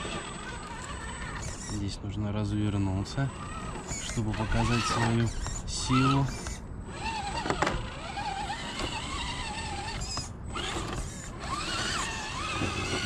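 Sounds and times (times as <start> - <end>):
electric motor and gearbox whining: 0.0 - 13.0.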